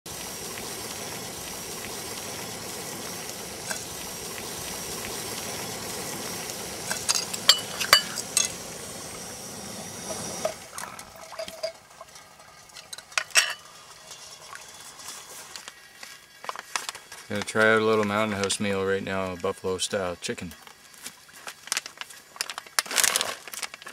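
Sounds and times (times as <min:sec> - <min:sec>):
camp stove hissing: 0:00.0 - 0:22.8.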